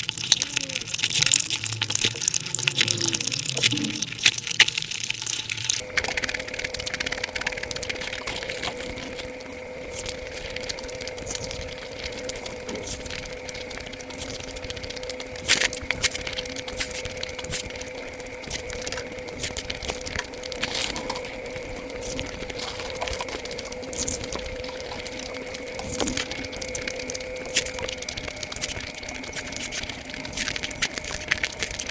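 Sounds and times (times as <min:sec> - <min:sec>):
faint steady hum: 0:00.0 - 0:31.9
fast chewing and lip-smacking: 0:00.0 - 0:31.9.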